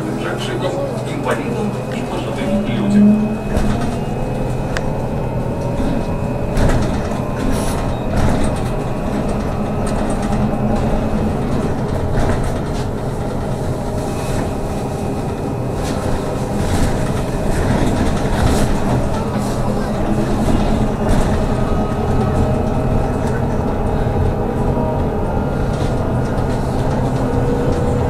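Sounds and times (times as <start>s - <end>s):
bus hum and road noise: 0.0s - 28.0s.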